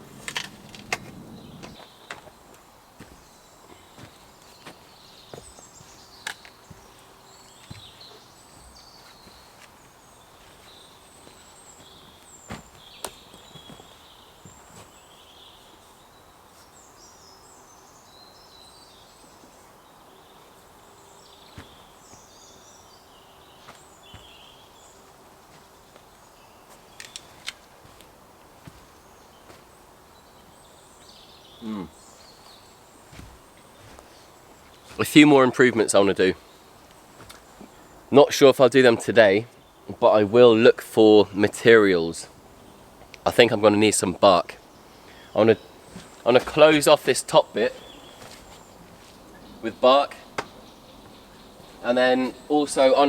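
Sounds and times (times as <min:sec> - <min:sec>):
woodland birdsong: 0:00.0 - 0:53.0.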